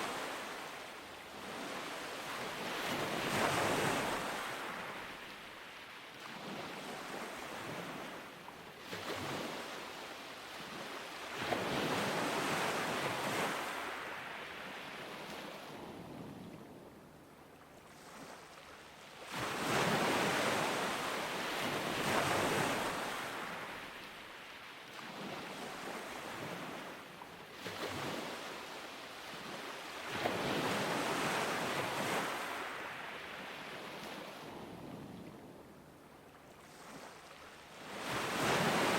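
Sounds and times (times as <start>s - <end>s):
ocean surf breaking on beach: 0.0s - 16.4s, 19.2s - 35.2s, 36.6s - 38.9s.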